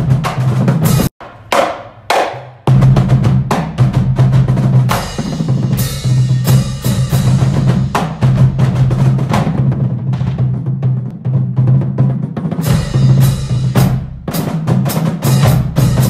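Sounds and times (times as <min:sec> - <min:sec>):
marching bass drums booming: 0:00.0 - 0:01.1, 0:02.6 - 0:16.0.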